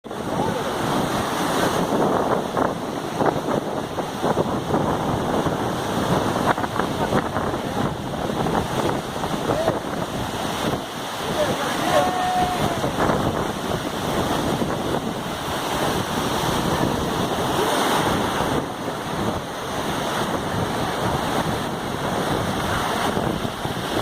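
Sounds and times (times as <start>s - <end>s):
river rushing: 0.0s - 24.0s
wind buffeting microphone: 0.1s - 24.0s.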